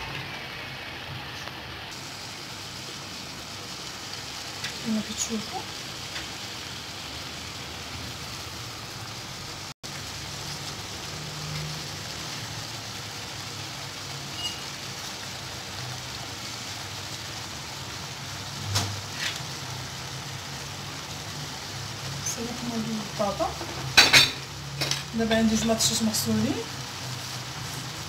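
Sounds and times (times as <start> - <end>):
vegetables frying in oil: 0.0 - 28.0.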